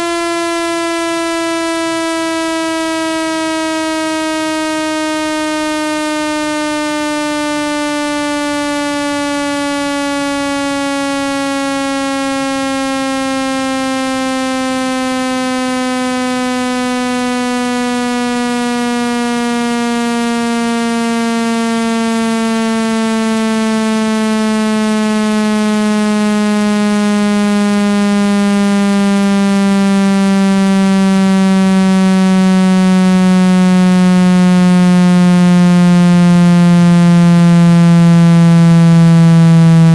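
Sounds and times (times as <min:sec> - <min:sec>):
buzzy electronic tone gliding down: 0:00.0 - 0:39.9.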